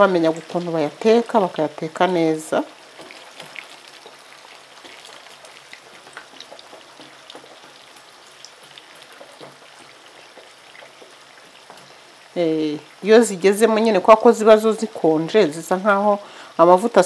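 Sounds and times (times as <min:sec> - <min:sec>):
oil sizzling with pops: 0:00.0 - 0:17.0.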